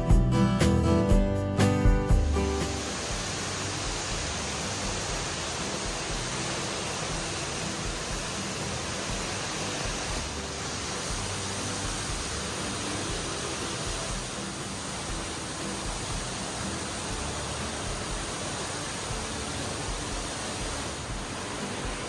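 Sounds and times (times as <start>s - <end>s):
rush of falling water: 1.8s - 22.0s.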